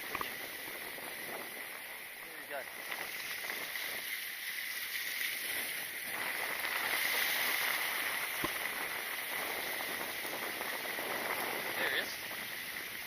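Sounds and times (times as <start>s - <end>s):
sea water washing around rocks: 0.0s - 13.0s.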